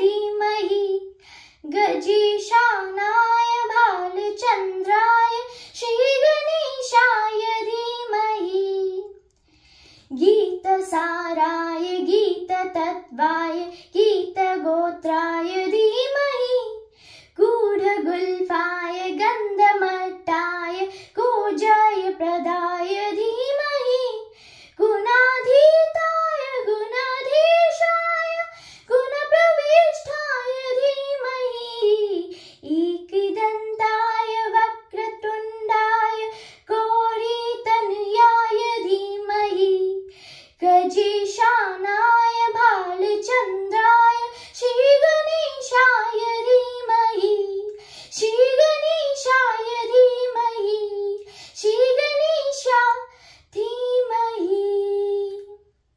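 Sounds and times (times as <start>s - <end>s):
girl singing unaccompanied: 0.0s - 9.3s, 10.0s - 55.9s.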